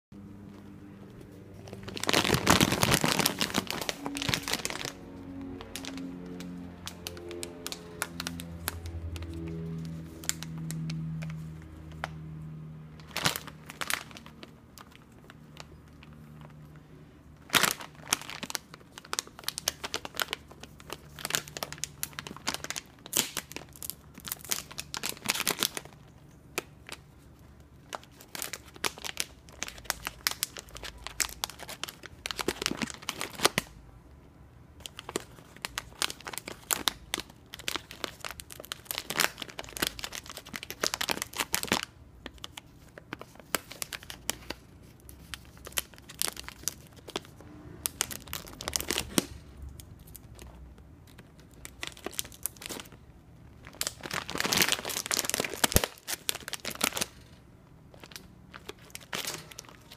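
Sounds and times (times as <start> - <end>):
plastic bag crinkling: 0.3 - 33.8, 34.8 - 59.9.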